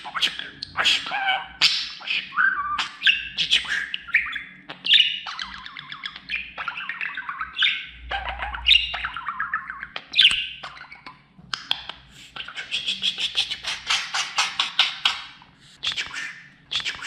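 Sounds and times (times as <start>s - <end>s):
budgerigar warbling and chattering: 0.0s - 17.0s.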